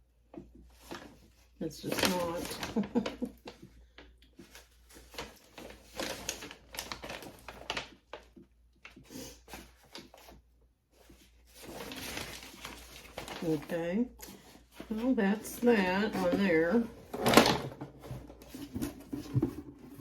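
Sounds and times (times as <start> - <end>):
packaging rustling: 0.8 - 10.4, 11.0 - 20.0.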